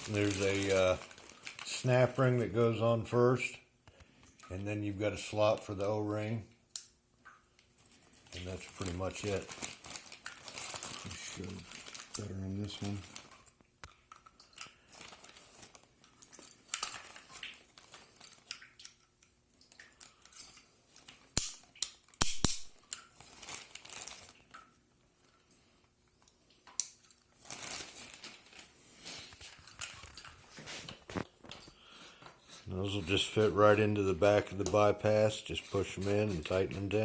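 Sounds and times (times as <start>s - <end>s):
plastic fittings rustling: 0.0s - 3.0s, 7.8s - 22.2s, 22.8s - 24.6s, 25.2s - 37.0s.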